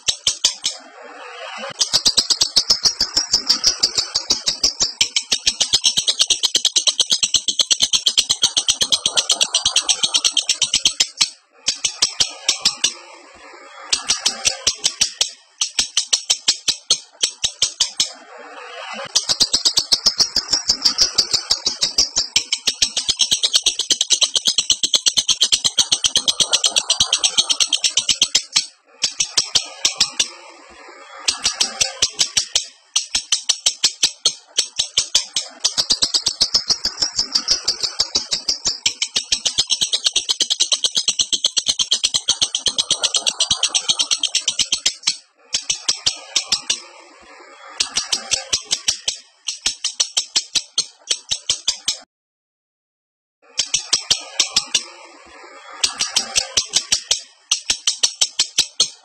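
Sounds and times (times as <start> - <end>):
lovebird chattering call: 0.0 - 13.0, 13.8 - 18.2, 18.8 - 30.3, 31.3 - 46.9, 53.6 - 54.9, 55.8 - 59.0.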